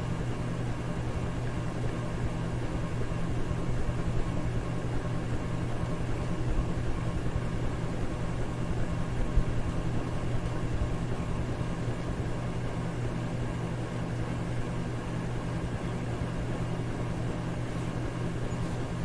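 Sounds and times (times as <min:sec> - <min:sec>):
electric fan air rush: 0:00.0 - 0:19.0
low motor hum: 0:00.0 - 0:19.0.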